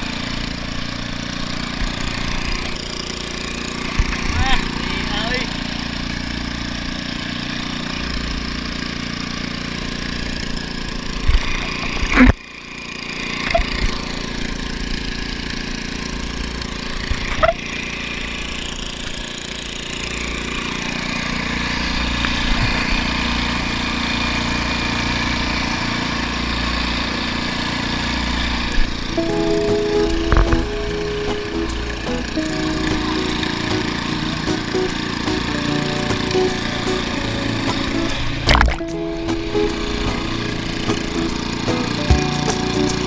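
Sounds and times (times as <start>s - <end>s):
small boat engine running: 0.0s - 43.0s.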